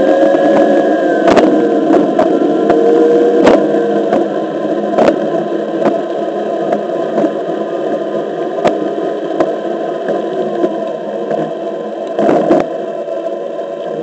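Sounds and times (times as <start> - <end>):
faint even whine: 0.0 - 14.0.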